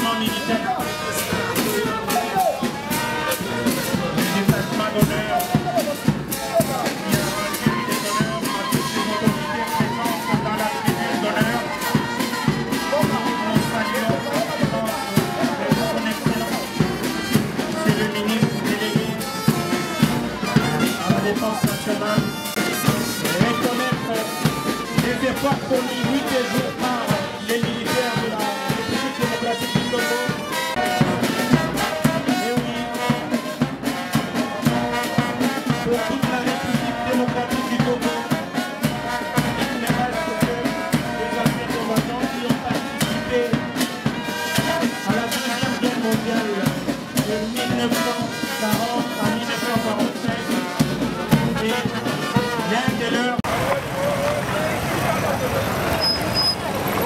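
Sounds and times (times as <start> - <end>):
steady drum beat: 0.0 - 54.6
brass band playing a march: 0.0 - 57.0.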